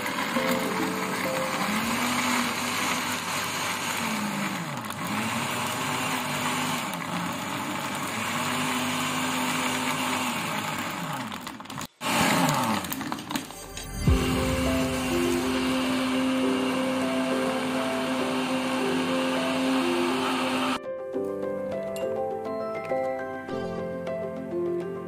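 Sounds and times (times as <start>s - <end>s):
blender motor whirring: 0.0s - 20.8s.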